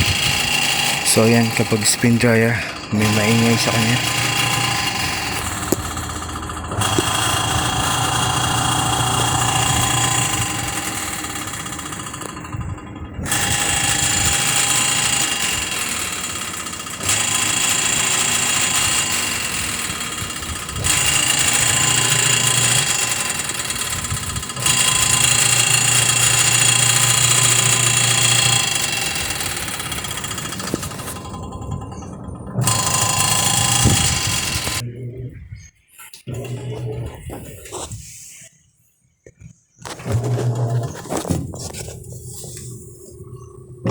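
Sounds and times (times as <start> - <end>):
washing machine spinning noisily: 0.0 - 38.0, 39.8 - 43.9.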